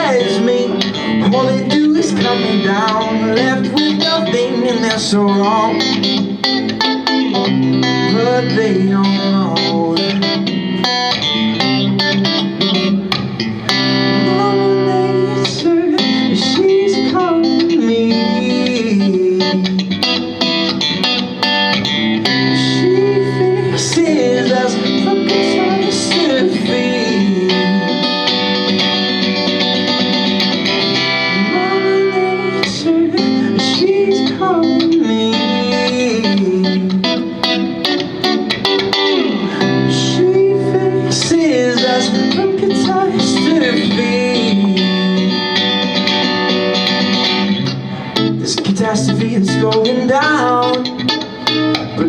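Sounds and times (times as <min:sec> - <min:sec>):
picked and strummed guitar: 0:00.0 - 0:52.0
pitch-bending guitar melody: 0:00.0 - 0:52.0.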